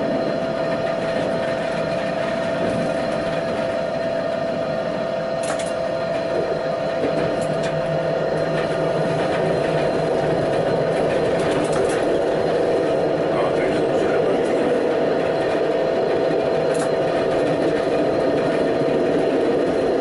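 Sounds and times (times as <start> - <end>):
tram running rumble: 0.0 - 20.0
tram whine: 0.0 - 20.0.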